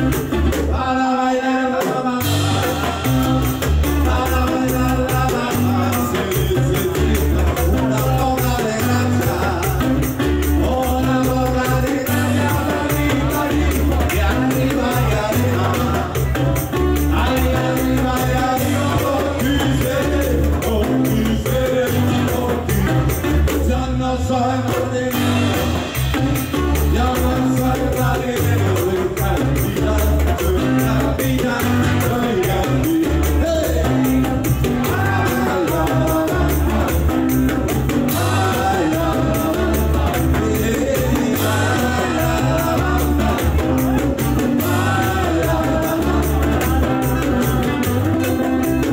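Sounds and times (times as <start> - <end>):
hand percussion: 0.0 - 0.8, 1.8 - 23.9, 24.6 - 48.9
acoustic guitar: 0.0 - 48.9
electric bass: 0.0 - 48.9
man singing: 0.0 - 48.9.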